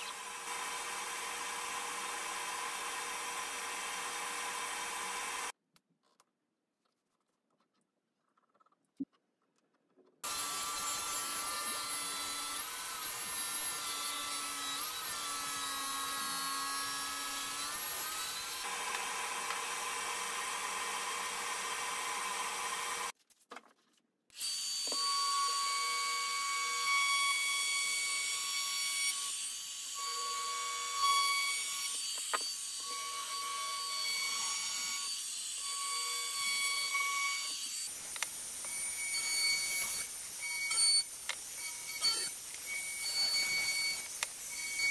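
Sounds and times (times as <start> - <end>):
router whining along wood: 0.0 - 5.5, 10.2 - 23.1, 24.4 - 44.9
table saw cutting wood: 0.0 - 5.5, 10.2 - 23.1, 24.4 - 44.9.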